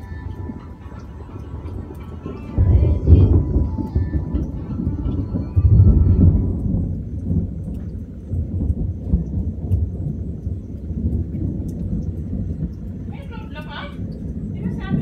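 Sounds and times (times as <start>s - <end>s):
rolling thunder: 0.0s - 15.0s.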